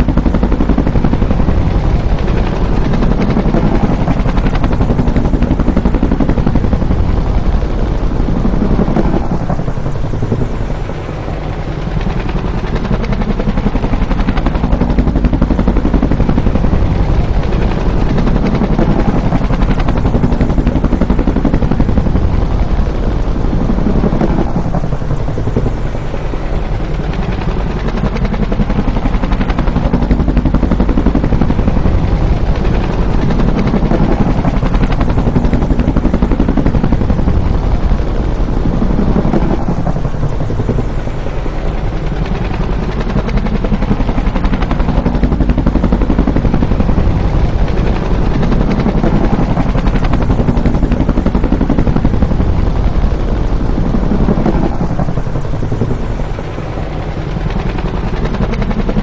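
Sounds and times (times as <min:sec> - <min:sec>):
helicopter flying by: 0:00.0 - 0:59.0.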